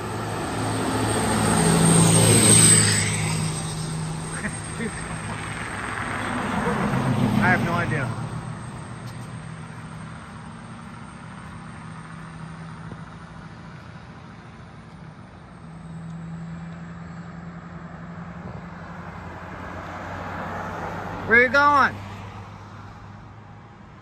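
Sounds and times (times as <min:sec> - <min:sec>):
cars driving by: 0:00.0 - 0:24.0.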